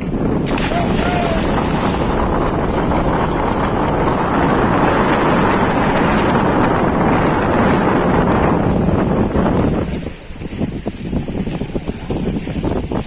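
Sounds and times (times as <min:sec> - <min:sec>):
rushing water: 0:00.0 - 0:13.0
wind noise on microphone: 0:00.0 - 0:13.0.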